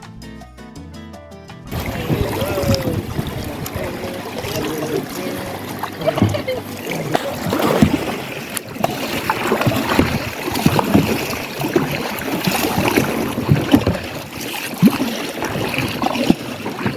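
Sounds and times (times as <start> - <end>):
little splashes: 1.7 - 16.9
water lapping against boat hull: 1.7 - 16.9.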